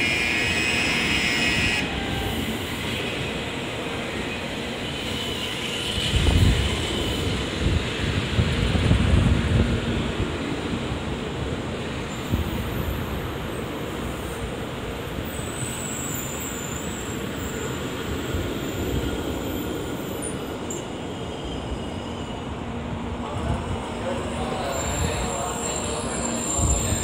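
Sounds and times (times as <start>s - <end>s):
train wheels passing: 0.0s - 27.0s.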